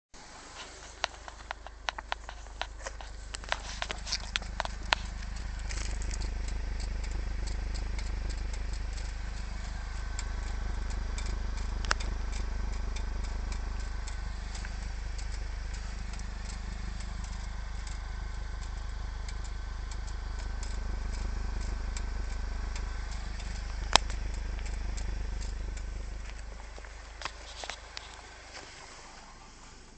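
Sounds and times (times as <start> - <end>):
hot exhaust cracking as it cools: 0.2 - 29.9
steady low hum: 0.2 - 29.9.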